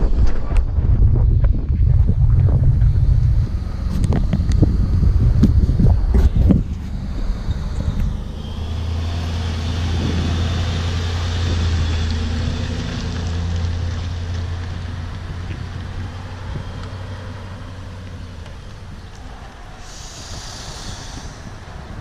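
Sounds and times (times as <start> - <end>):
vehicle engine running low: 0.0 - 22.0.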